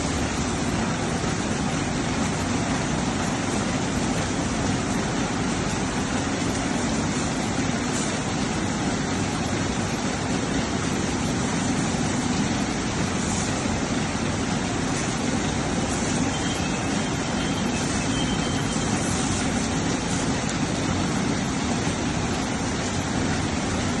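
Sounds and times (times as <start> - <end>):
car wash machine running: 0.0 - 24.0.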